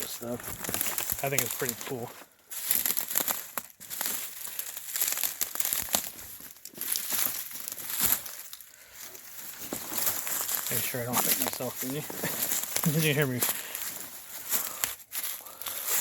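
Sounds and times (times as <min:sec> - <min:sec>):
footsteps crunching through dry brush: 0:00.0 - 0:16.0.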